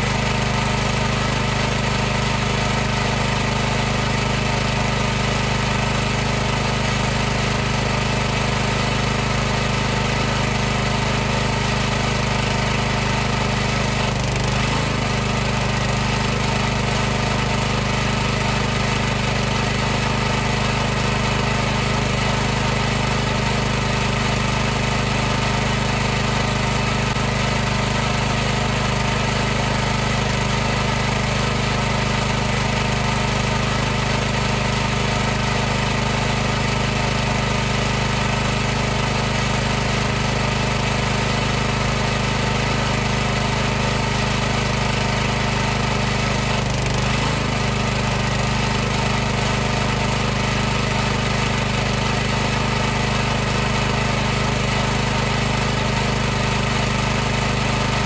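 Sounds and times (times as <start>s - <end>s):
pressure washer pump running: 0.0s - 58.0s.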